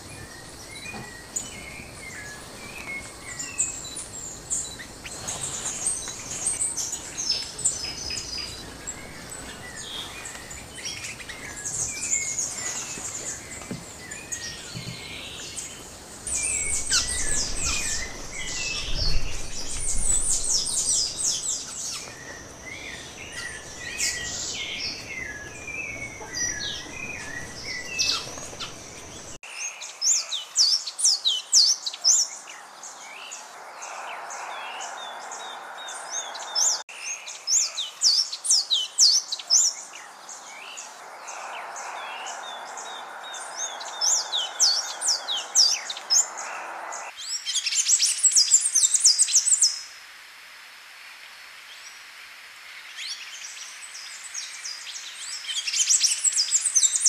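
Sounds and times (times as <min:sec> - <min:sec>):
birds chirping and trilling: 0:00.0 - 0:49.9, 0:52.8 - 0:57.0
steady background hiss: 0:00.0 - 0:57.0.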